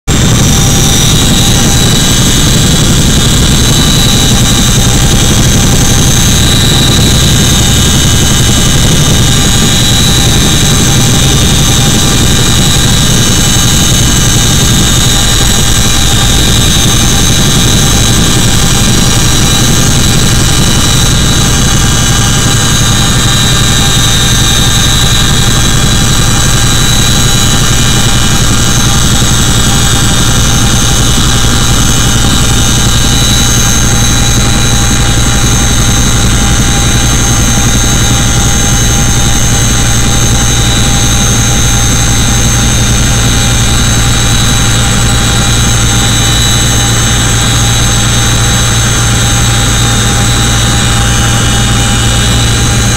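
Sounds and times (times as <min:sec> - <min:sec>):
helicopter engine and rotor drone: 0:00.0 - 0:52.9
high whines: 0:00.1 - 0:52.9.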